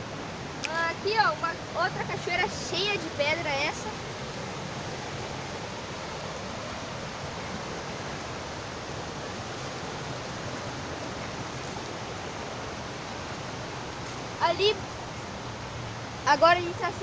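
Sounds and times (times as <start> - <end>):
waterfall over rocks: 0.0 - 17.0.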